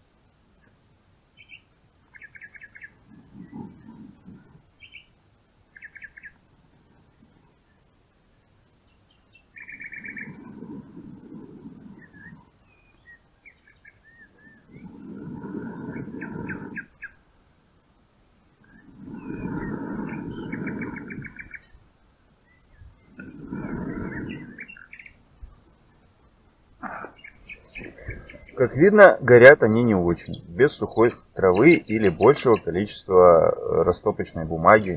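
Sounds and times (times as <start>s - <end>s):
low rushing noise bursts: 0.0s - 34.9s
small birds chirping: 0.6s - 17.4s, 18.5s - 34.9s.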